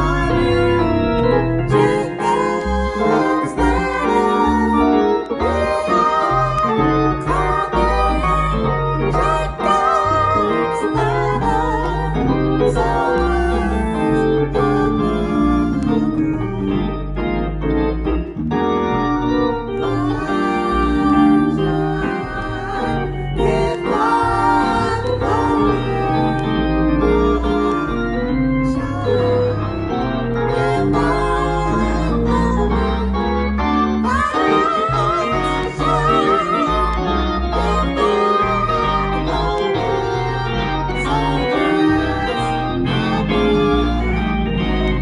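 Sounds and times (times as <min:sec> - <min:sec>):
electric organ gospel chords: 0:00.0 - 0:45.0.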